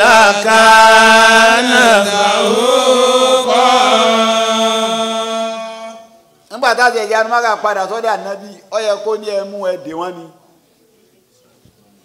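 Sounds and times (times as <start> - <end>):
man chanting through microphone: 0.0 - 10.4.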